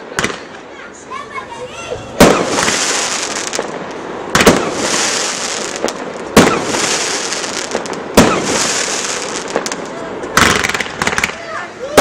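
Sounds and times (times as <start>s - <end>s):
fireworks bangs: 0.0s - 12.0s
steady high hiss: 0.0s - 12.0s.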